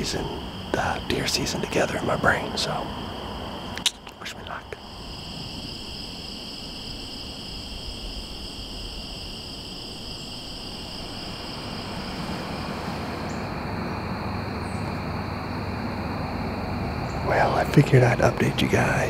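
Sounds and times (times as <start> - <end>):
crickets chorusing: 0.0 - 19.0.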